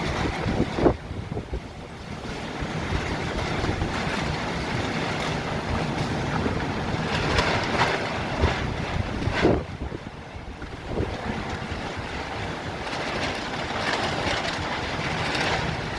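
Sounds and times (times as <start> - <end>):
storm wind buffeting microphone: 0.0 - 15.9.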